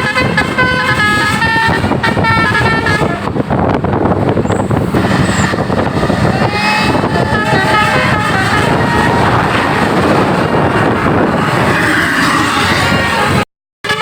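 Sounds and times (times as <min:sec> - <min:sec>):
bus engine and road noise: 0:00.0 - 0:14.0
multi-tone bus horn: 0:00.0 - 0:14.0.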